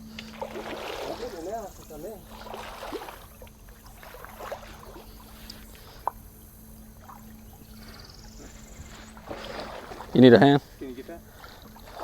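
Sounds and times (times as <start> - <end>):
faint steady hum: 0.0 - 12.0
water and handling noises: 0.0 - 12.0.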